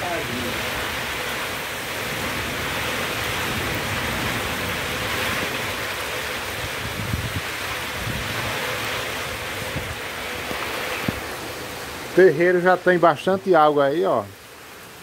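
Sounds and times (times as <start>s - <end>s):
wind gusts on microphone: 0.0s - 12.2s
heavy rain pouring: 0.0s - 15.0s.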